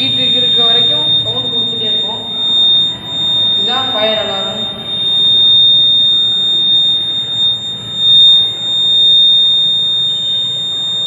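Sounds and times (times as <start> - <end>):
high-pitched alarm buzzer tone: 0.0 - 11.0.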